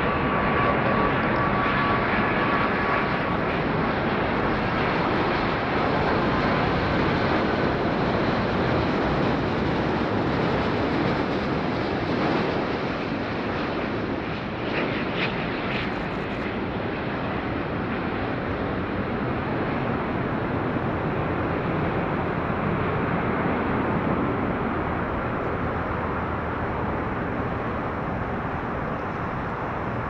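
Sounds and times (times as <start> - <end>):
jet engines passing: 0.0 - 30.0.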